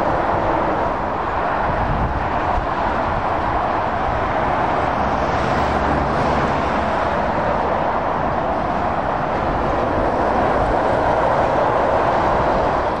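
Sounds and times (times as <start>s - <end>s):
lorry engines droning: 0.0s - 13.0s
tyres roaring on road: 0.0s - 13.0s.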